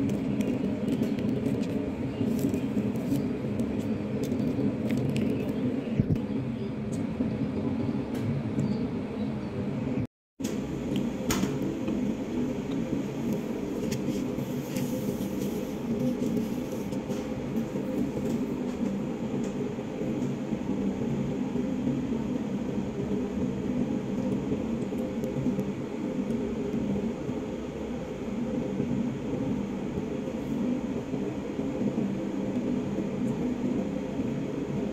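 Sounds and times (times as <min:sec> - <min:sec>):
low machine hum with hiss: 0:00.0 - 0:34.9.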